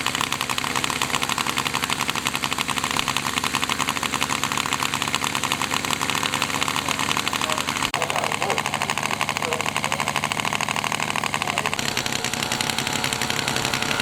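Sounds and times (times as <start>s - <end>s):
model aircraft engine running: 0.0s - 14.0s.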